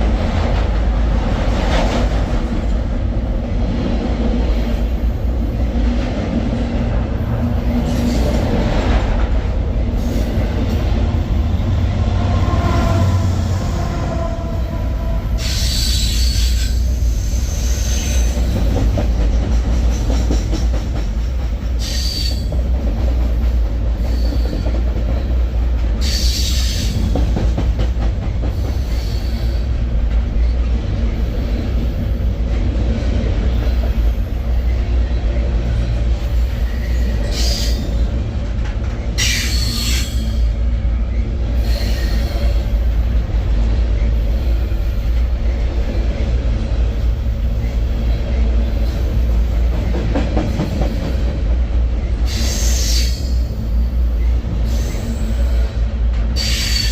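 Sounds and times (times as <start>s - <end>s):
train rolling rumble: 0.0s - 56.9s.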